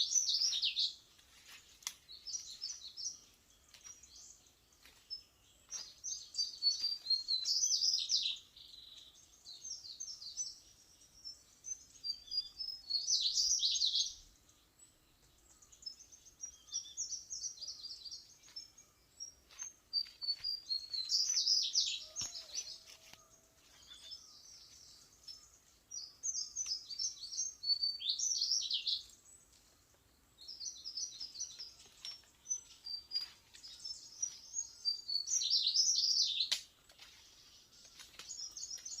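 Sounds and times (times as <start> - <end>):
songbird chirping: 0.0 - 39.0.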